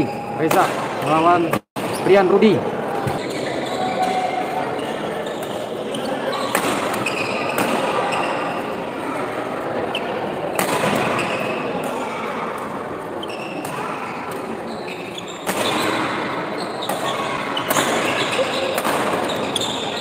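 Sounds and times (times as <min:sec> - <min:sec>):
crowd noise: 0:00.0 - 0:20.0.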